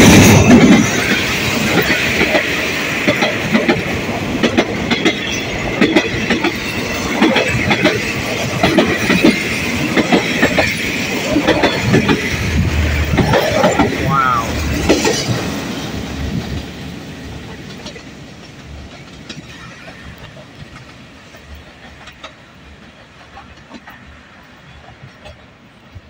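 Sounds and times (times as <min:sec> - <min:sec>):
wheels clicking over rail joints: 0:00.0 - 0:14.0, 0:14.6 - 0:26.0.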